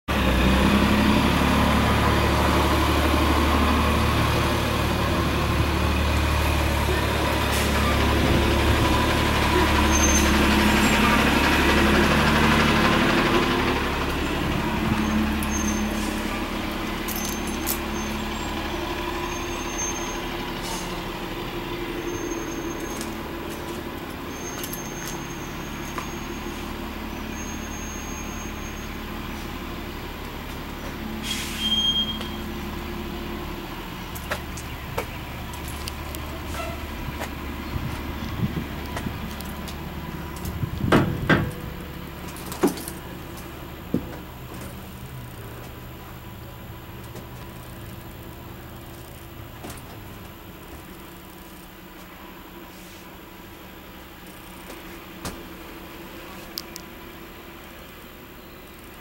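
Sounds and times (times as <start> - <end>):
vehicle engine running: 0.1 - 59.0.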